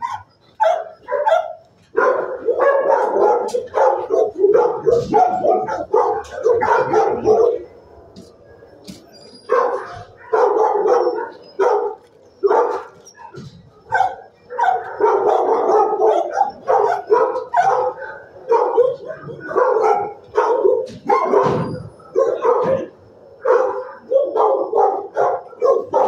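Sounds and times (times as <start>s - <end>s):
dog barking: 0.0s - 7.8s, 9.5s - 26.0s.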